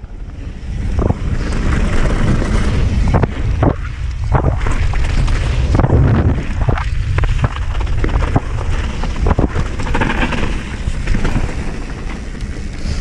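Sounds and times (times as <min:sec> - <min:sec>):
tyres on loose gravel: 0:00.0 - 0:13.0
wind buffeting microphone: 0:00.0 - 0:13.0
bike knocks and rattles: 0:01.0 - 0:13.0.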